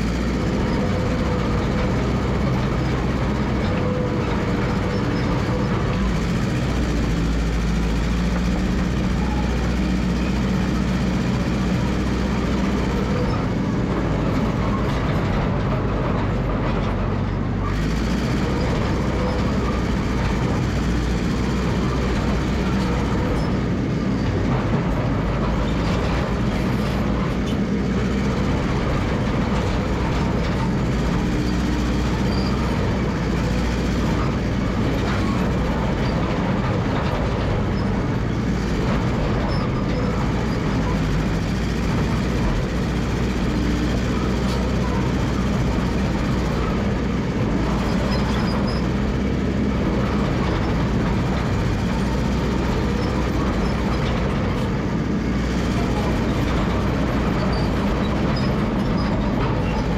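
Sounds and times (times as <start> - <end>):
crawler dozer engine and tracks: 0.0 - 59.9.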